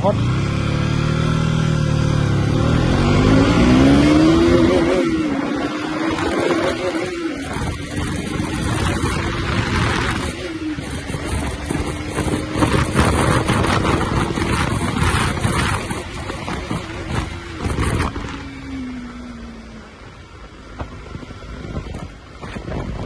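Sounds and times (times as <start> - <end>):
motorcycle engine running hard: 0.0 - 23.0
wind rushing over microphone: 0.4 - 23.0.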